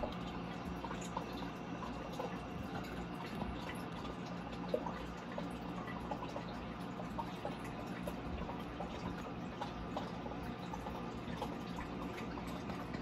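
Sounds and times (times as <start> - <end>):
steady low pump hum: 0.0 - 13.0
water trickling and dripping: 0.0 - 13.0.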